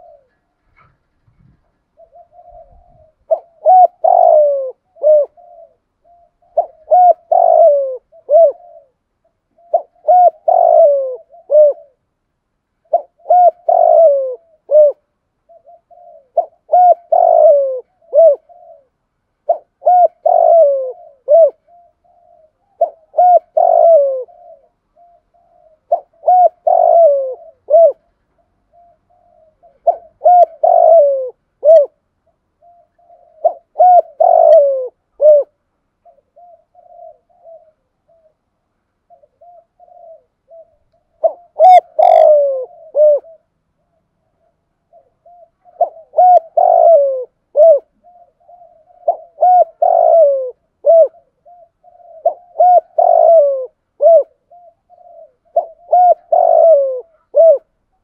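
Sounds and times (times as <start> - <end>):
dove cooing: 0.0 - 12.1, 12.8 - 58.0.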